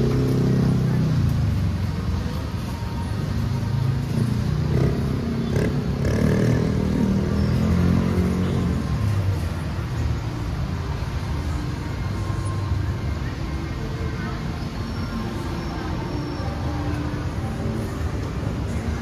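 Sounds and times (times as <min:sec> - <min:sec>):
background traffic rumble: 0:00.0 - 0:19.0.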